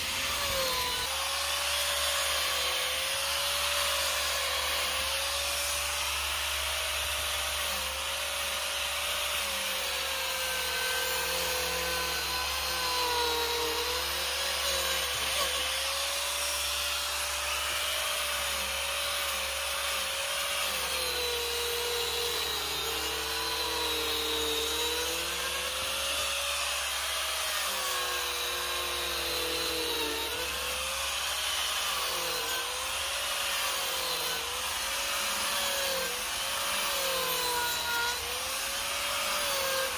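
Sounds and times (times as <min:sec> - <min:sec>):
angle grinder cutting wood: 0:00.0 - 0:39.9.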